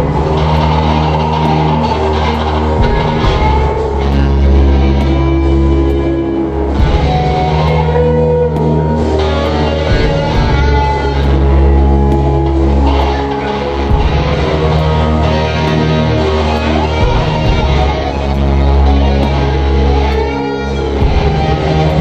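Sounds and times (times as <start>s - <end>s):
electric guitar chords: 0.0s - 22.0s
heavy bass: 0.0s - 22.0s.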